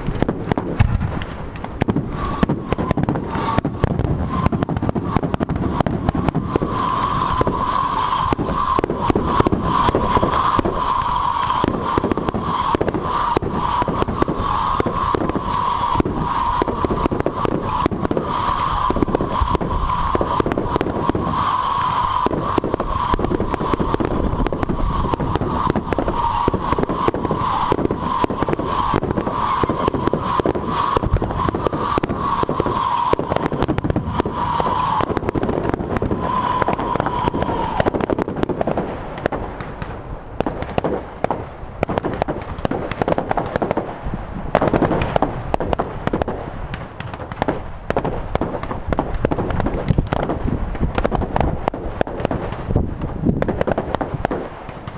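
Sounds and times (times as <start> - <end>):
fireworks bangs: 0.0 - 54.9
fireworks crackling: 0.0 - 54.9
steady hiss: 5.0 - 54.9.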